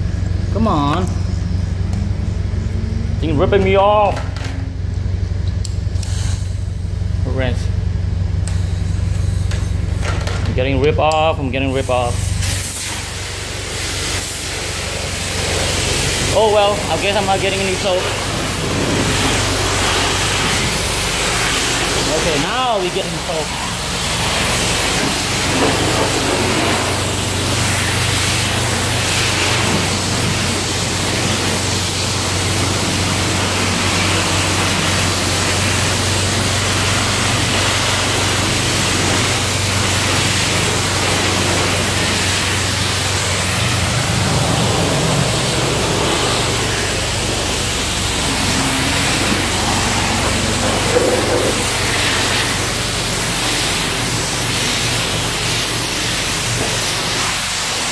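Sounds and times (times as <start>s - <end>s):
low even hum: 0.0s - 56.7s
pressure washer spray hissing: 5.8s - 7.1s, 8.3s - 10.0s, 11.1s - 57.9s.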